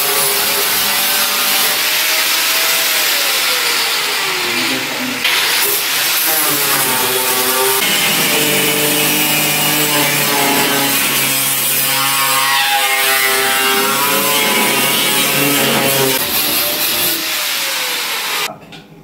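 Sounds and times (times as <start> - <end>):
angle grinder grinding metal: 0.0 - 18.5.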